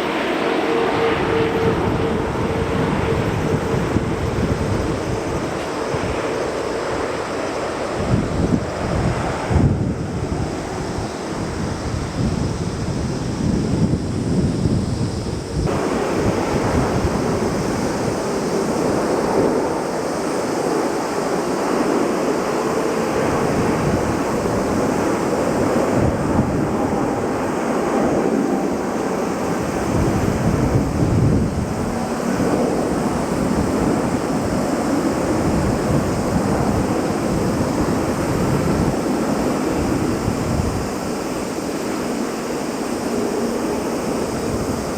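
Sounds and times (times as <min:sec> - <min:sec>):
jet airliner engines running: 0:00.0 - 0:44.9
wind buffeting microphone: 0:00.0 - 0:44.9.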